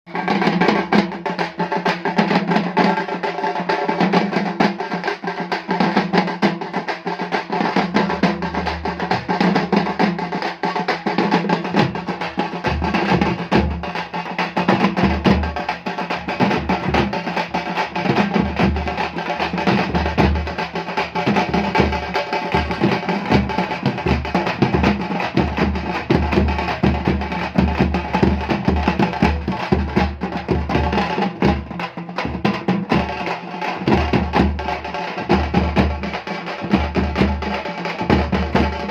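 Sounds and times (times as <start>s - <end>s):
drum ensemble fast beat: 0.1s - 38.9s.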